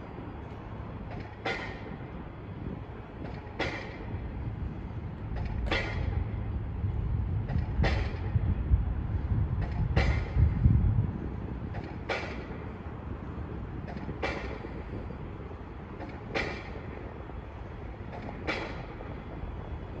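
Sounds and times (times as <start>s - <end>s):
train low rumble: 0.0s - 20.0s
wheels clacking over rail joints: 0.5s - 20.0s.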